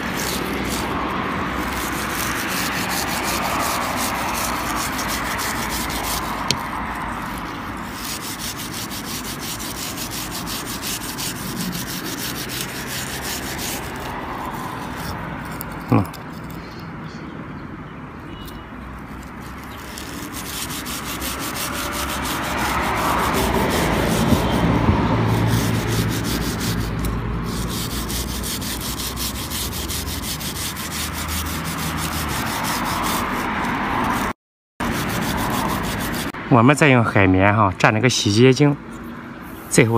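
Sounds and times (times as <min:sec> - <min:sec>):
rubbing and scrubbing wiper blade: 0:00.0 - 0:16.5, 0:19.0 - 0:36.4.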